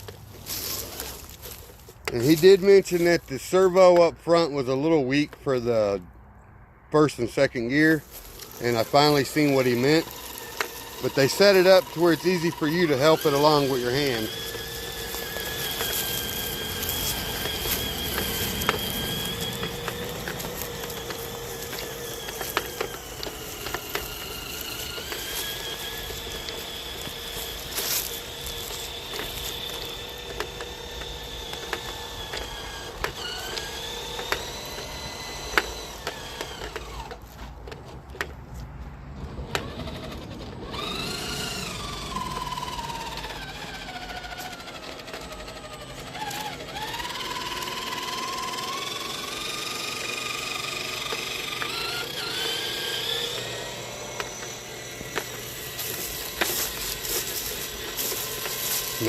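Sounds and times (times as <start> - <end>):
electric motor whining: 0.0 - 5.8, 7.1 - 38.3, 39.2 - 59.0.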